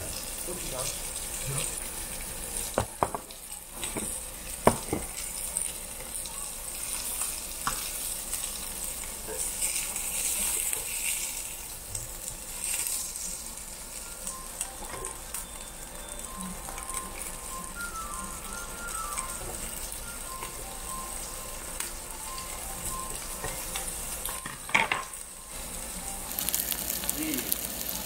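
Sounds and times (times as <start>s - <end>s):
pork sizzling on grill: 0.0s - 28.0s.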